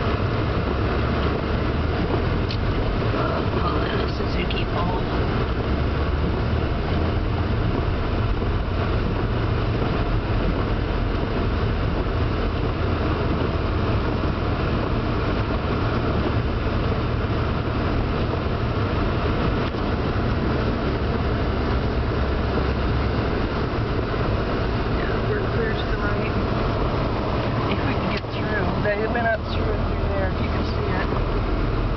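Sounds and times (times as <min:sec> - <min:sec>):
engine and tyres rumbling: 0:00.0 - 0:31.9.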